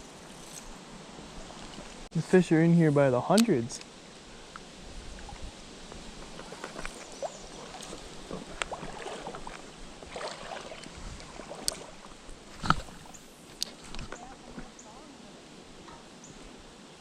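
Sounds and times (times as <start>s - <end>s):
creek water splashing: 0.0s - 16.6s.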